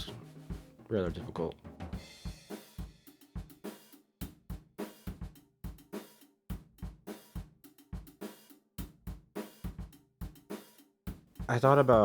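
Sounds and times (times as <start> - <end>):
drum kit beat: 0.0 - 12.0.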